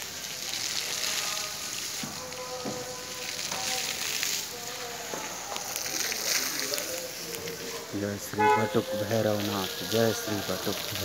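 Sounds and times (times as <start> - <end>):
steady hiss: 0.0 - 11.0
faint crackles: 0.3 - 11.0.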